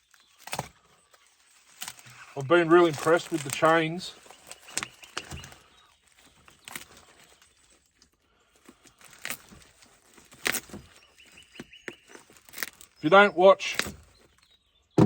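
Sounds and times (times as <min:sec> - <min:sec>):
packaging rustling and clicking: 0:00.0 - 0:13.0.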